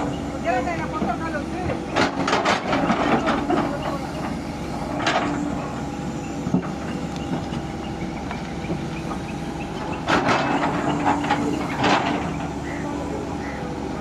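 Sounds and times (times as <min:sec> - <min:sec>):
steady mechanical rumble: 0:00.0 - 0:14.0.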